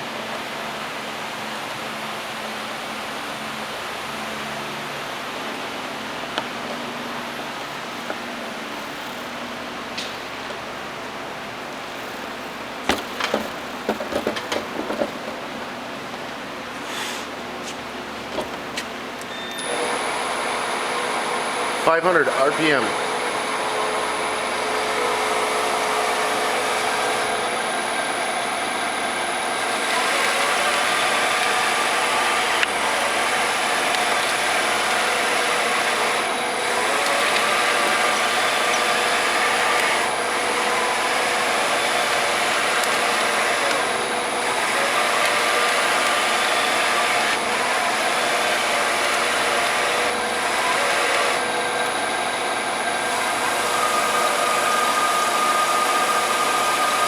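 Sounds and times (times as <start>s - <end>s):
milling machine spindle whirring: 7.1s - 15.7s, 18.2s - 57.0s.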